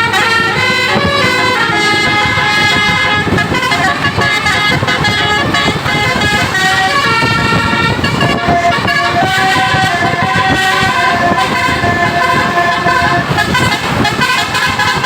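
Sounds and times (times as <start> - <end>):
constant noisy rumble: 0.0 - 15.0
musical air horn tune: 0.0 - 15.0.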